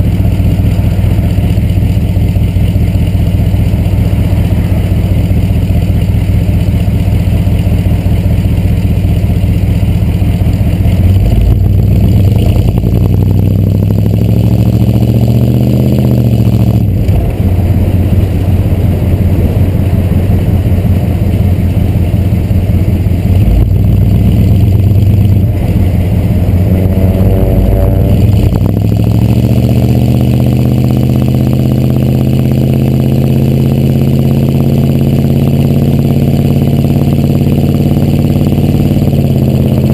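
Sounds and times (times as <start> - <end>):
diesel engine through exhaust: 0.0 - 39.9.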